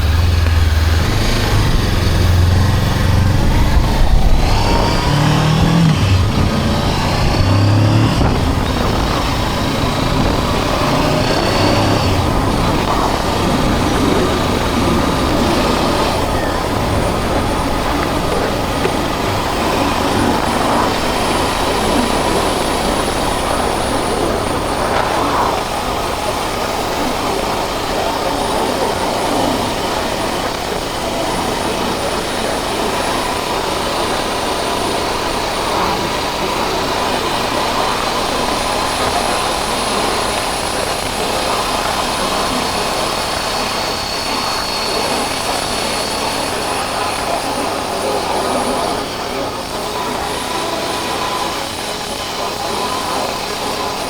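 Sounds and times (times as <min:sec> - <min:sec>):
motorcycle engine: 0:00.0 - 0:54.0
wind rush: 0:00.0 - 0:54.0.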